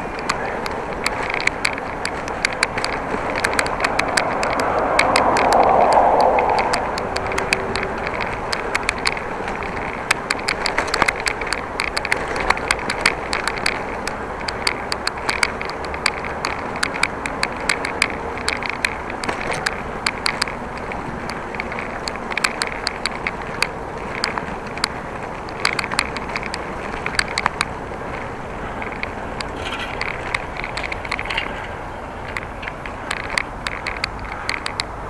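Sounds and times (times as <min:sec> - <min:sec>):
bicycle clicks and rattles: 0:00.0 - 0:35.0
wind and tyre noise: 0:00.0 - 0:35.0.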